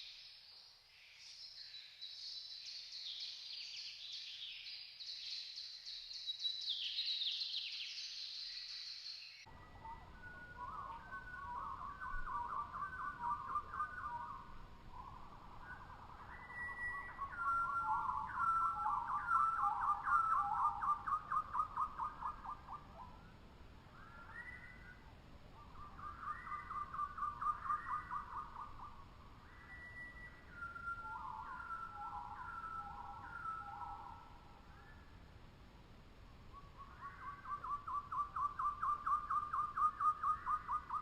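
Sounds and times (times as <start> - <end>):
faint steady hiss: 0.0 - 41.0
whistled bird notes: 1.2 - 23.2, 24.0 - 25.0, 25.6 - 35.2, 36.5 - 41.0.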